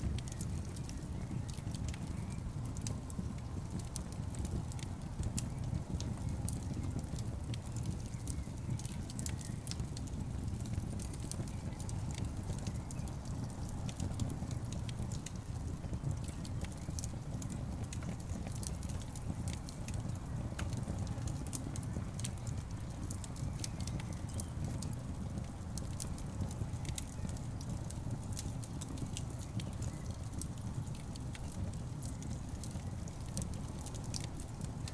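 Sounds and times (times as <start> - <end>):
wood logs burning crackling: 0.0 - 34.9.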